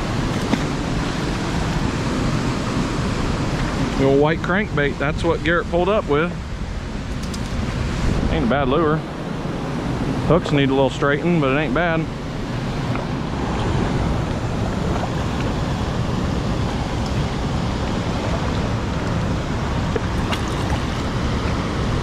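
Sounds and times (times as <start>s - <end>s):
river water rushing: 0.0s - 4.1s, 6.4s - 22.0s.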